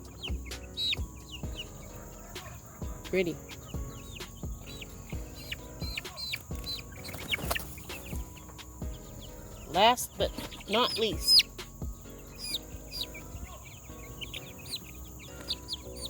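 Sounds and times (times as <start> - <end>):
young chickens peeping: 0.0 - 16.0.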